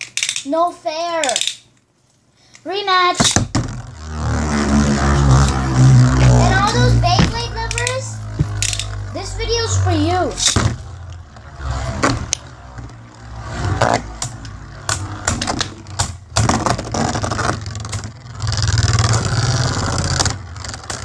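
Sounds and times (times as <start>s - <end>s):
spinning tops whirring: 3.2s - 21.0s
steady low hum: 3.2s - 21.0s.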